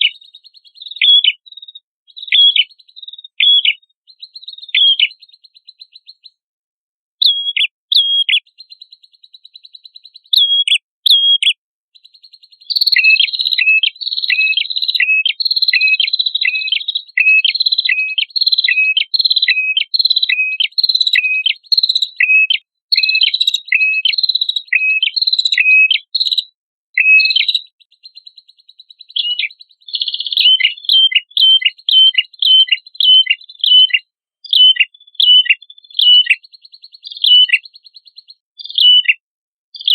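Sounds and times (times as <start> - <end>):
bird whistled notes: 0.0 - 6.2, 7.2 - 11.6, 12.6 - 26.4, 27.0 - 39.2
buzzy bird trill: 0.0 - 6.4, 7.2 - 39.2.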